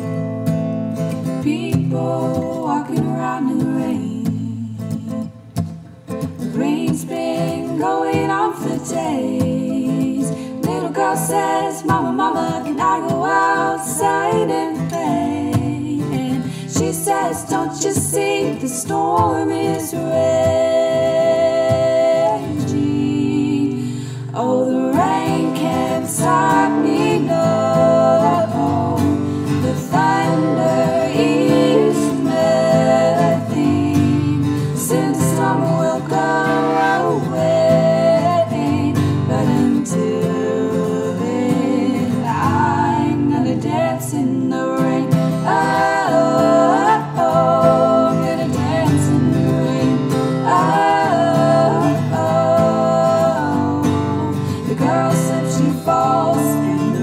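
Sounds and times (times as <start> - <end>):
acoustic guitar strumming: 0.0 - 57.0
woman singing in harmonies: 1.0 - 57.0.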